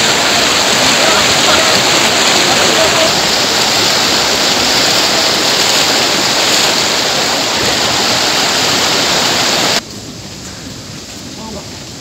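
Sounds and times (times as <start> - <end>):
river rushing over rocks: 0.0 - 9.8.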